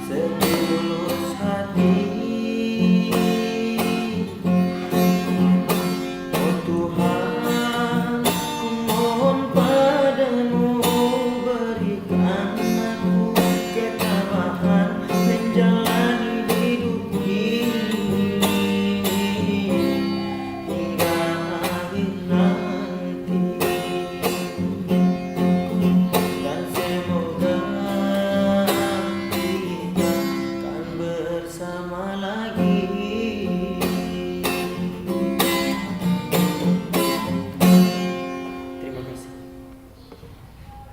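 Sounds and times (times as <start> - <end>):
person singing: 0.0 - 24.6, 25.6 - 35.9
acoustic guitar strumming: 0.0 - 40.9.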